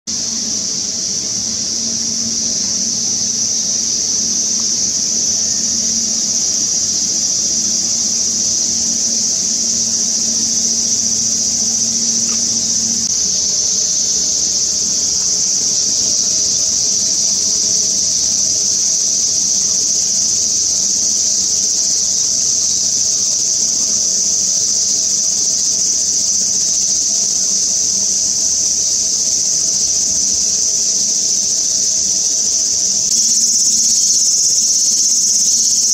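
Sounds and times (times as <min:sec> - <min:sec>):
insect chorus drone: 0:00.1 - 0:35.9.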